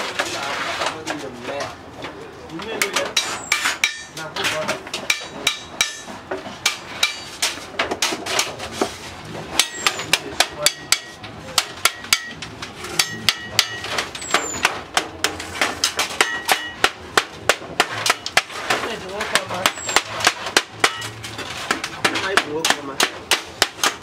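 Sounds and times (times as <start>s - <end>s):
hammer on aluminium sheet: 2.8s - 8.2s, 9.5s - 24.0s.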